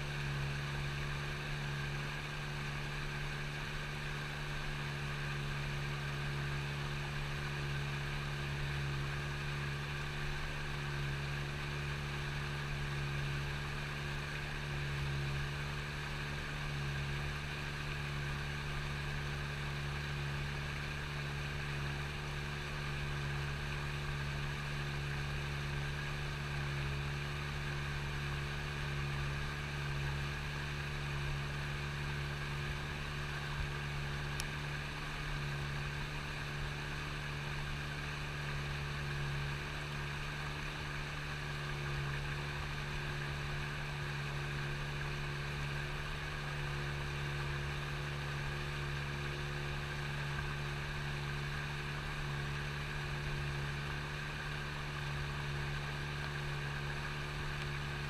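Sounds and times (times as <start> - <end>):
small boat motor running: 0.0 - 58.0.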